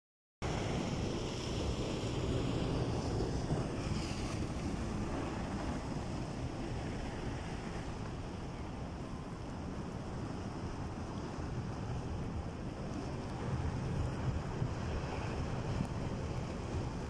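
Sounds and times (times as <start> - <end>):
flood water rushing rumble: 0.4 - 17.0.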